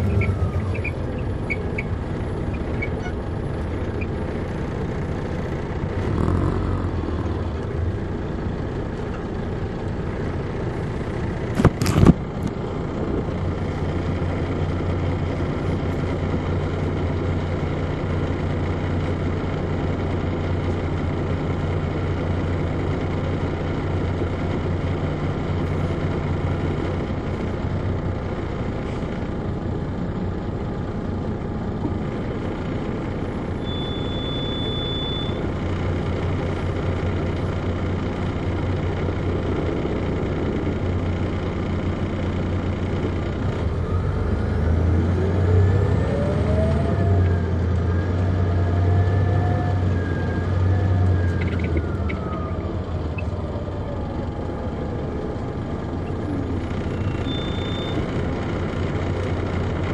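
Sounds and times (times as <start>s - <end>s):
bus diesel engine humming: 0.0s - 59.9s.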